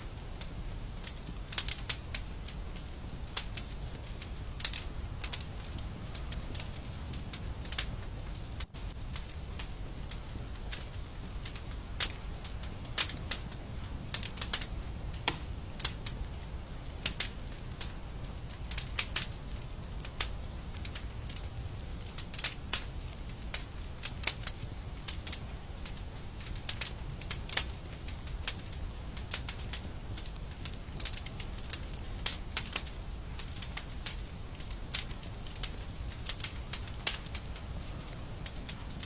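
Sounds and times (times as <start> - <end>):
steady low rumble: 0.0 - 39.0
wood fire crackling and popping: 0.0 - 39.0.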